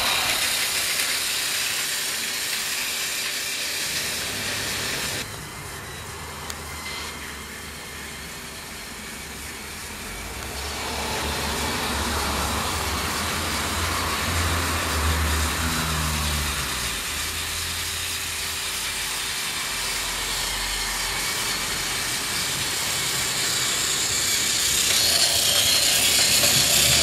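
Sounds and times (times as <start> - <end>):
toy train motor whine: 0.0 - 27.0.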